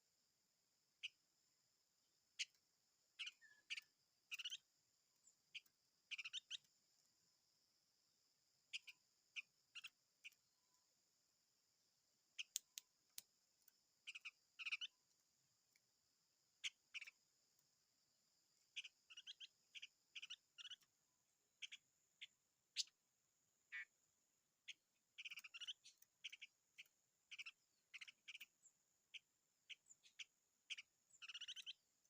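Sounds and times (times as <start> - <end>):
songbird chirping: 0.0 - 32.0.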